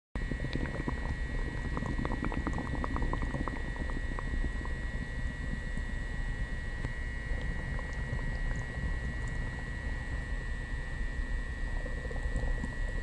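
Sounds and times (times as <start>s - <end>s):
stomach gurgling: 0.2s - 13.0s.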